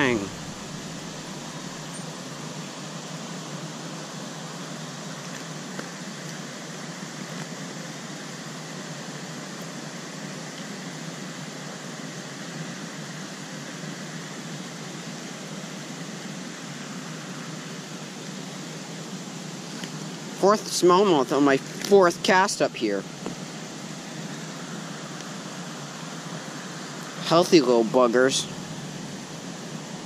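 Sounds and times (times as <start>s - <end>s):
stream and waterfall rushing: 0.0s - 30.0s.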